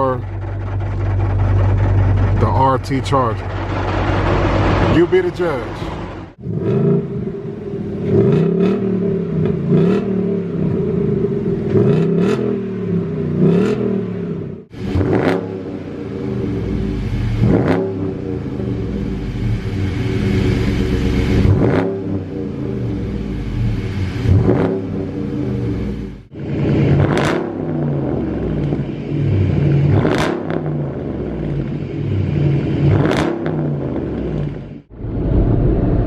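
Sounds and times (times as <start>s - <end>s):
car engine idling and revving: 0.0s - 36.0s
deeper engine revving: 0.0s - 36.0s.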